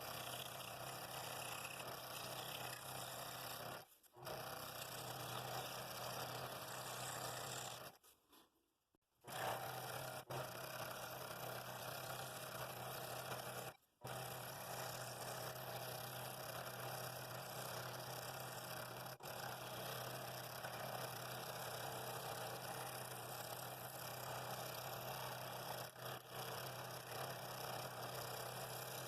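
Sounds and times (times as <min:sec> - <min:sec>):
scroll saw cutting wood: 0:00.0 - 0:08.1, 0:09.3 - 0:29.0.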